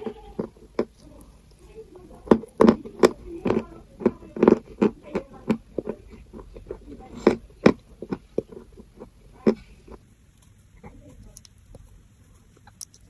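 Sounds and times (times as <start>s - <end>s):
chalk crunching being chewed: 0.0s - 13.0s.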